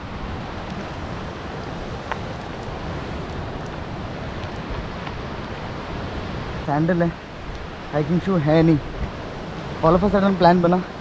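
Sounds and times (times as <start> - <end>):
sea surf on rocks: 0.0 - 11.0
wind buffeting microphone: 0.0 - 11.0.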